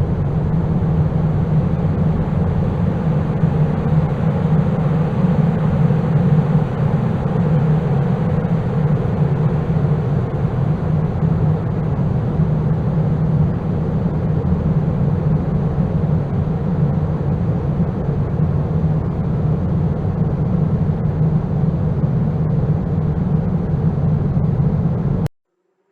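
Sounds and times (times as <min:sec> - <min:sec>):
low rumbling drone: 0:00.0 - 0:25.3.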